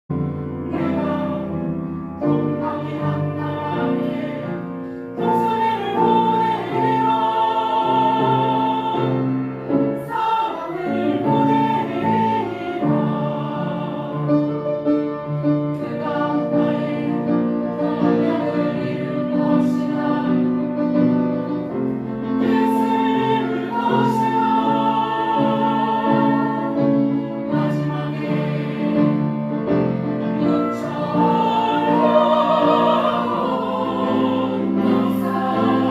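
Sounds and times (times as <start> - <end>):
choir singing: 0.1 - 35.9
piano accompaniment: 0.1 - 35.9.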